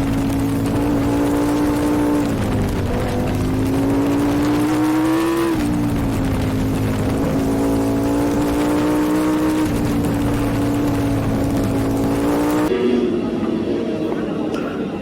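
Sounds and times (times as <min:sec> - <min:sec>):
superbike engine at high revs: 0:00.0 - 0:12.7.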